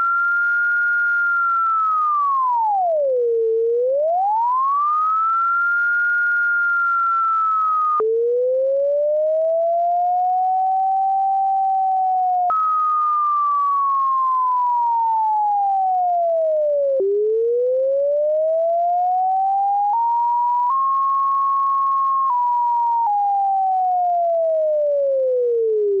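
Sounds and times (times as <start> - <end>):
sine tone gliding in pitch: 0.0 - 26.0.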